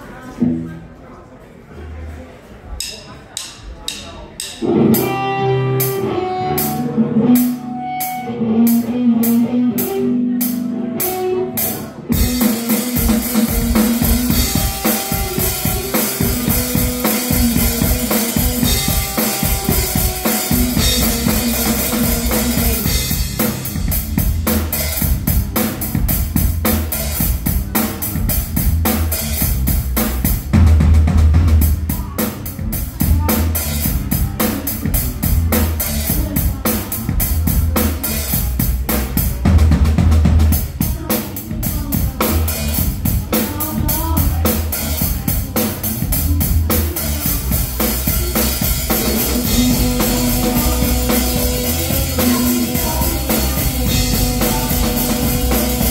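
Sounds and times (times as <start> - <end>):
drum kit playing: 2.8 - 55.9
guitar: 4.4 - 55.9
bass line: 4.6 - 55.9.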